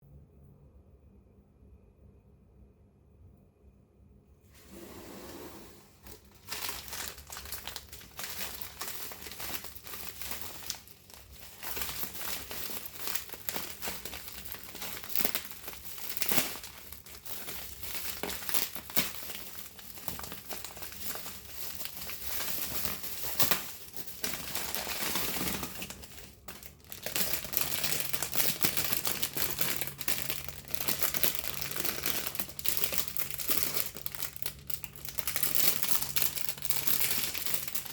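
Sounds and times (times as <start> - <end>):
packaging wrap crinkling: 5.9 - 37.9.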